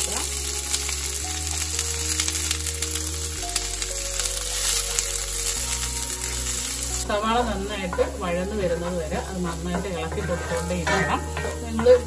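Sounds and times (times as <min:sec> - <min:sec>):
onion sizzling in oil: 0:00.0 - 0:12.0
slow low chords music: 0:00.0 - 0:12.0.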